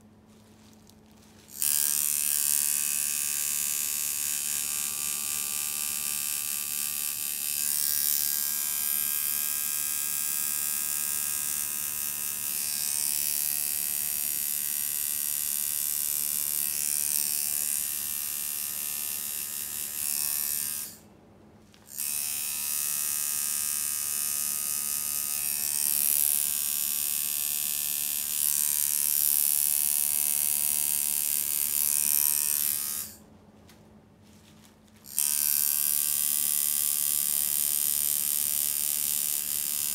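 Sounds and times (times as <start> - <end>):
tattoo machine buzzing: 1.5 - 21.0, 21.9 - 33.2, 35.0 - 39.9.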